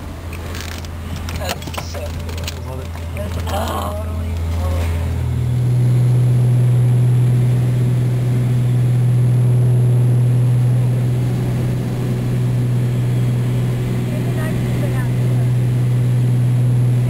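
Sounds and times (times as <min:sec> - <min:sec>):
propeller plane cabin drone: 0:00.0 - 0:17.0.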